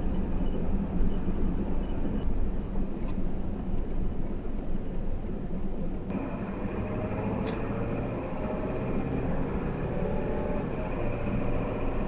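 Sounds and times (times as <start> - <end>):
road and wind noise: 0.0 - 12.0
vehicle rumble: 0.0 - 12.0.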